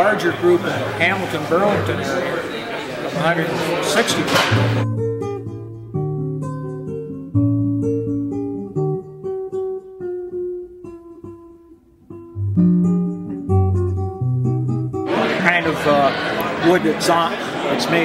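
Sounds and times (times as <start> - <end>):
acoustic guitar picking: 0.0 - 18.0.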